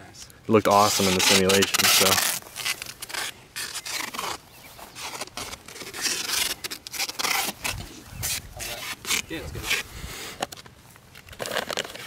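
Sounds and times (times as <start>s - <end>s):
footsteps through long grass: 0.8s - 12.0s.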